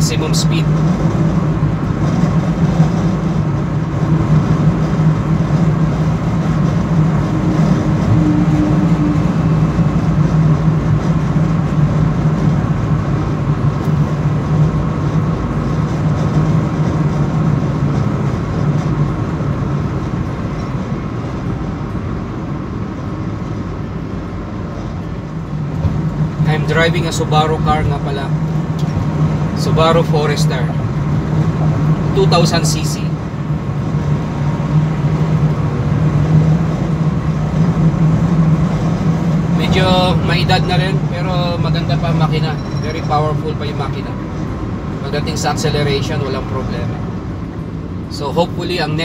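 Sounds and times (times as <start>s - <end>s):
engine and road noise drone: 0.0s - 49.0s.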